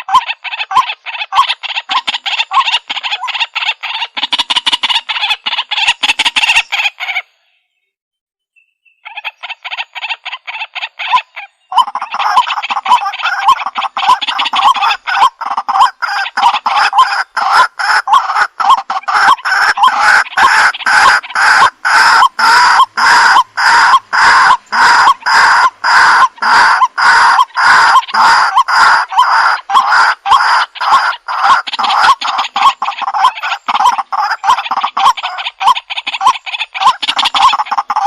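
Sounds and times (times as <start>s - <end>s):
waterhen calling: 0.0s - 7.4s, 8.8s - 38.0s.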